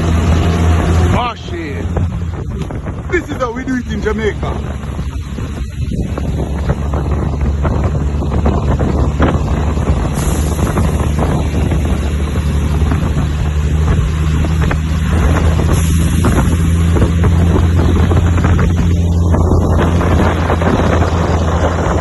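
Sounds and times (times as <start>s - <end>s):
diesel truck engine droning: 0.0s - 22.0s
wind rumbling on microphone: 0.0s - 22.0s.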